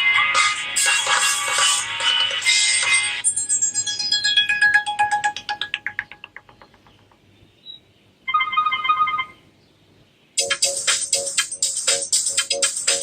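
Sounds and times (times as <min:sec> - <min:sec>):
falling ringtone notes: 0:00.1 - 0:06.9, 0:08.3 - 0:09.4, 0:10.4 - 0:13.0.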